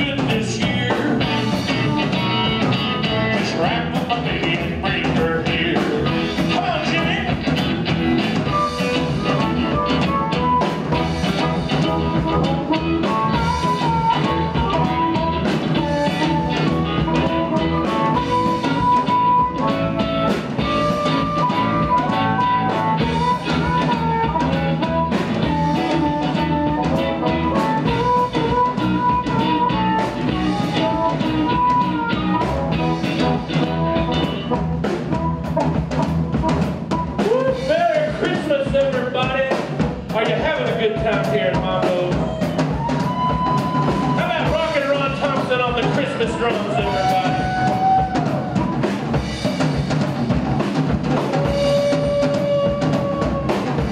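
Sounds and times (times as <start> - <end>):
amplified harmonica lead: 0.0 - 53.9
bass: 0.0 - 53.9
drum kit: 0.0 - 53.9
electric guitar: 0.0 - 53.9.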